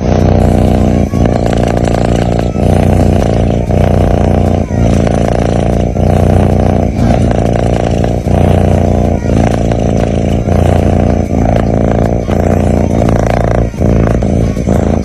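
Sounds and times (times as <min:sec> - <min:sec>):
cat snoring: 0:00.0 - 0:15.0.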